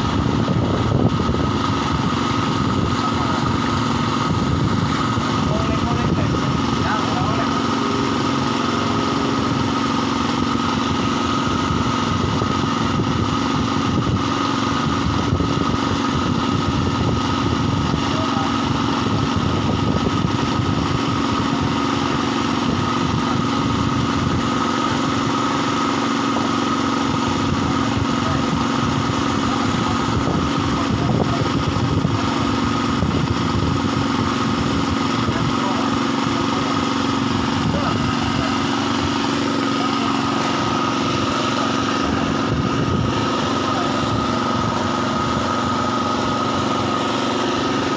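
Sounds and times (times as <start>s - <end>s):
small engine running: 0.0s - 47.9s.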